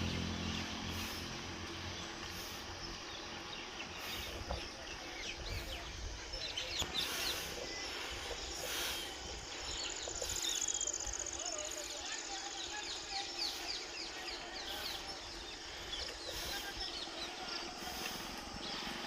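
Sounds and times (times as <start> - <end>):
birds chirping: 0.0 - 19.0
outdoor background hiss: 0.0 - 19.0.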